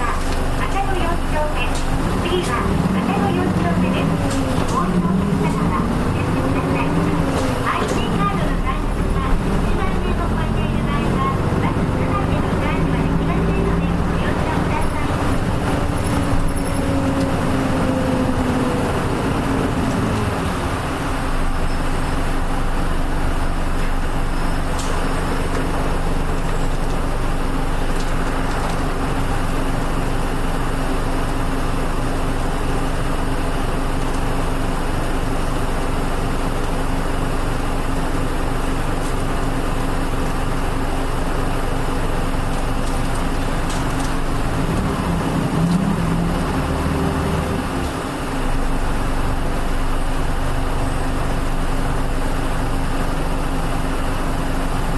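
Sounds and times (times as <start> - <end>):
bus engine running: 0.0 - 54.9
road noise: 0.0 - 54.9.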